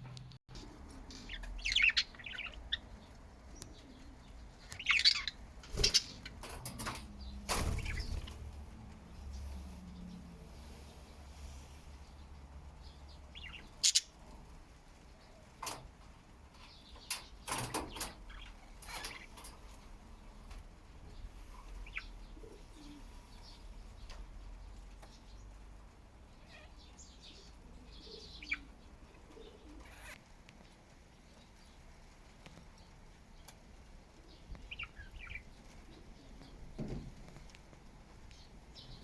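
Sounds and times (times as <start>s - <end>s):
budgies chirping softly: 1.0s - 39.0s.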